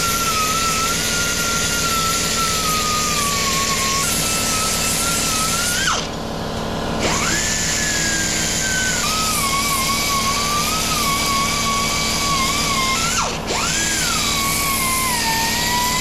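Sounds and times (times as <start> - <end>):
belt sander grinding metal: 0.0 - 6.1, 7.0 - 16.0.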